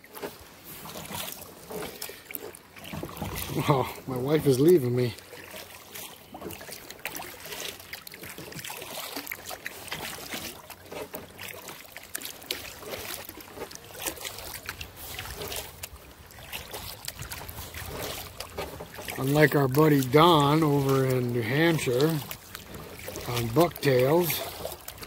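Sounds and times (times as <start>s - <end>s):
paddle dipping in water: 0.0s - 25.0s
water dripping off paddle: 0.0s - 25.0s.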